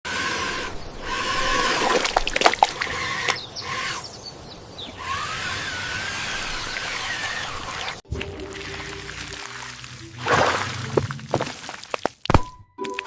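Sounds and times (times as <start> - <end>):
water and mud splashing: 0.1 - 13.0.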